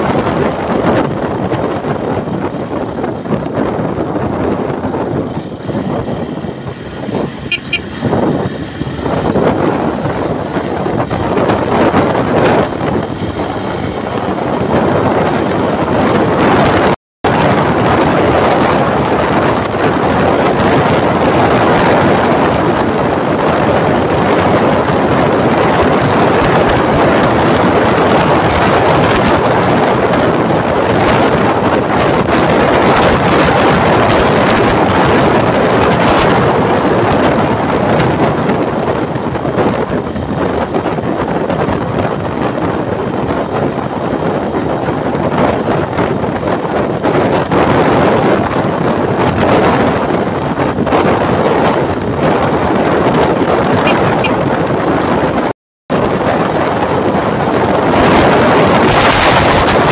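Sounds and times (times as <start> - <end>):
motorcycle and road noise: 0.0 - 59.9
wind rushing on microphone: 0.0 - 59.9.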